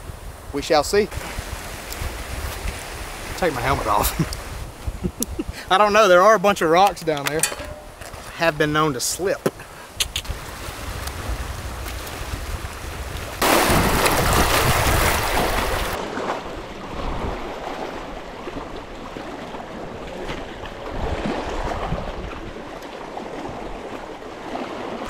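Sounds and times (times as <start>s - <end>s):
wind noise on microphone: 0.0s - 5.8s, 6.6s - 25.0s
waves lapping over rocks: 0.6s - 4.7s, 5.6s - 25.0s.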